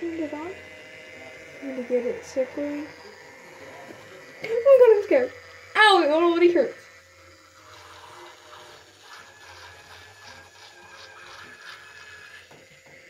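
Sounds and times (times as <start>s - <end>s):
handheld device whirring: 0.0s - 13.0s.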